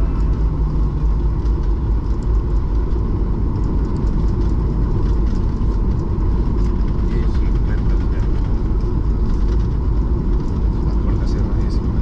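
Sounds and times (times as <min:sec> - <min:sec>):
low rumble inside airplane cabin: 0:00.0 - 0:12.0.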